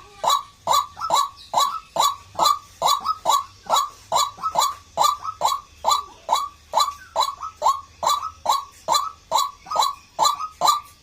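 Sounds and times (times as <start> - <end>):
waterhen calling: 0.0 - 11.0.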